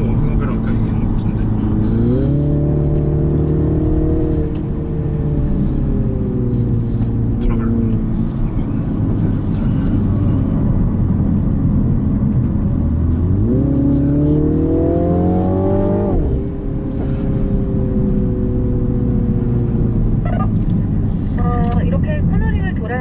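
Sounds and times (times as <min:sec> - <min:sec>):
turbo car engine accelerating: 0:00.0 - 0:23.0.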